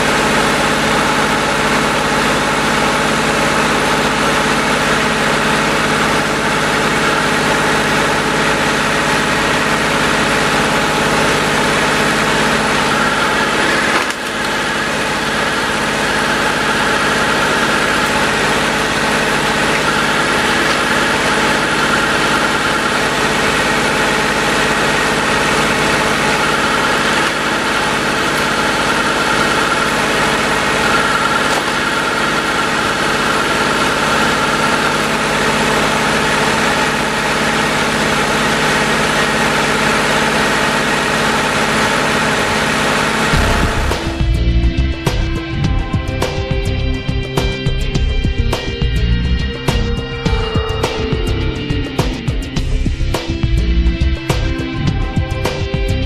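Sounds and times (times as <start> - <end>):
log splitter whining: 0.0 - 56.0
tractor engine running: 0.0 - 56.0.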